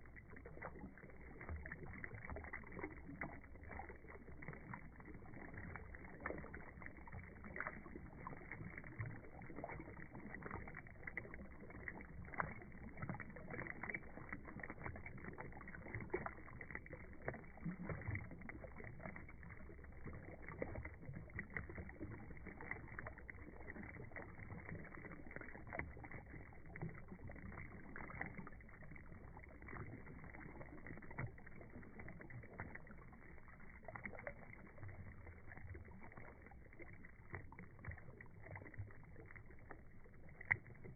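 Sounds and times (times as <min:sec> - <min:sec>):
fountain water burbling and splashing: 0:00.0 - 0:40.9.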